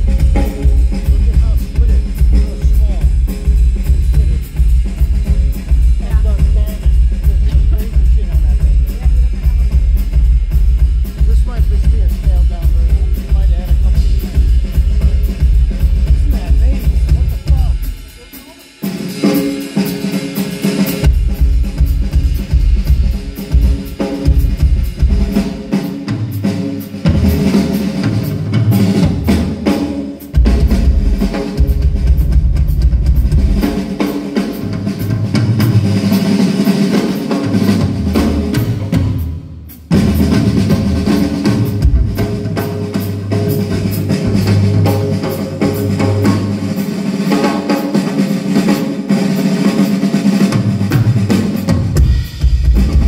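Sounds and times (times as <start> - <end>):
rock drum kit playing: 0.0 - 53.0.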